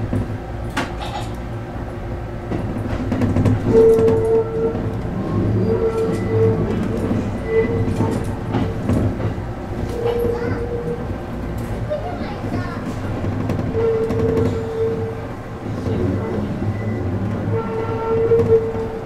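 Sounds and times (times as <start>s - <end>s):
train low rumble: 0.0s - 19.0s
wheels clicking over rail joints: 0.1s - 19.0s.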